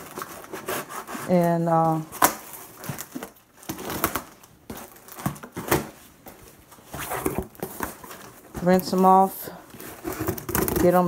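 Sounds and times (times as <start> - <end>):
crinkling tape and cardboard: 0.0 - 11.0.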